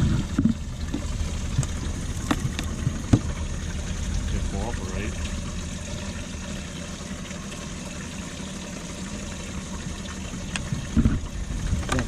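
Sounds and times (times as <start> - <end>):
pump humming: 0.0 - 12.0
water pouring and splashing: 0.0 - 12.0.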